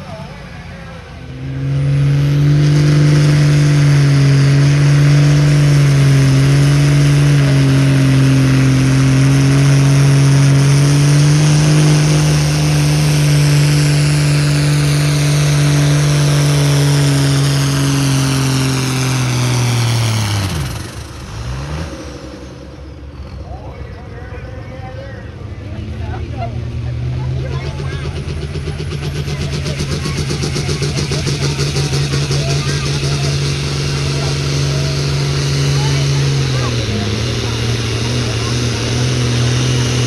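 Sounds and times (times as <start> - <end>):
diesel tractor engine under load: 0.0 - 40.0.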